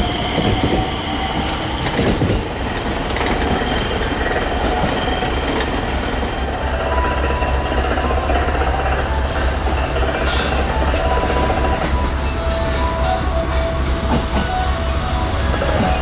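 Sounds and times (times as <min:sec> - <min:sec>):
train rushing past on rails: 0:00.0 - 0:16.0.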